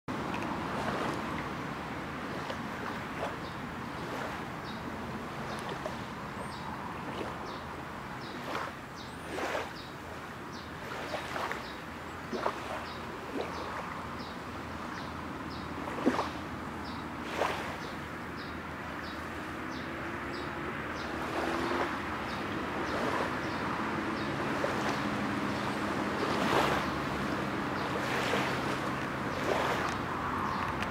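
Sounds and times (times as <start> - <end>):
lake waves lapping on shore: 0.1 - 30.9.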